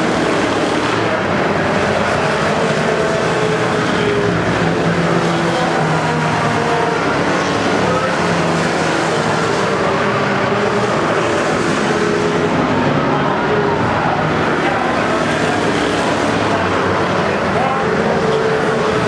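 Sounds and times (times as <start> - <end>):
race truck engines roaring: 0.0 - 19.0.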